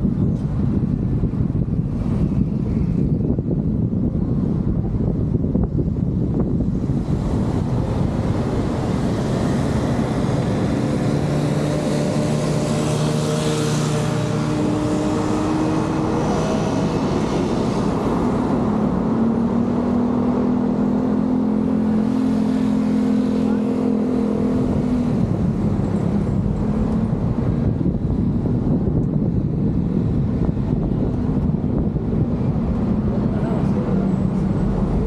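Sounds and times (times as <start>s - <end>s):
car engine hum: 0.0s - 35.0s
tyres and passing vehicles: 0.0s - 35.0s.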